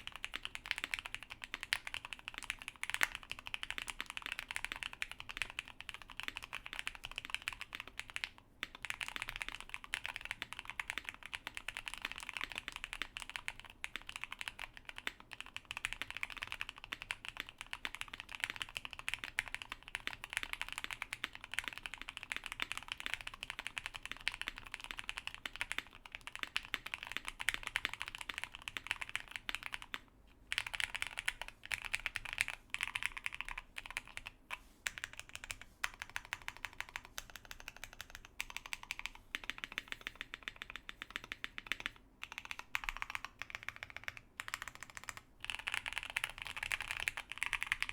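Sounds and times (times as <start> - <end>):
mechanical keyboard typing: 0.0 - 47.9.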